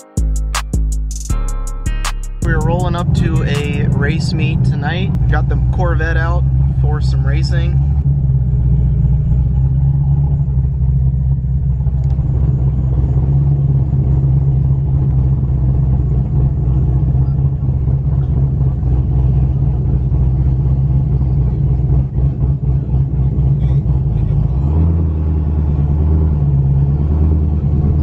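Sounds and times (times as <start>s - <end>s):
car engine low rumble: 0.3s - 28.0s.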